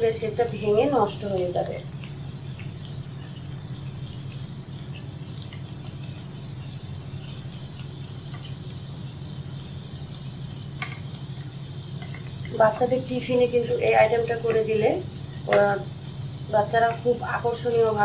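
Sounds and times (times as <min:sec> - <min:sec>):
oil bubbling and popping: 0:00.0 - 0:18.0
steady low hum: 0:00.0 - 0:18.0.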